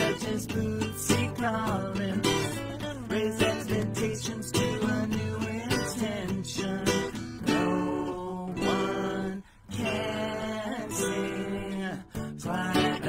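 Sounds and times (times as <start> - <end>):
acoustic guitars strummed: 0.0 - 13.0
men singing together: 0.0 - 13.0.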